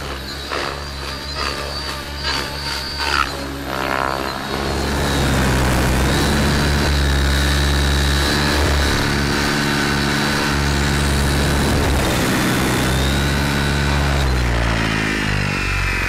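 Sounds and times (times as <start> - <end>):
model helicopter motor and rotors: 0.0 - 16.0.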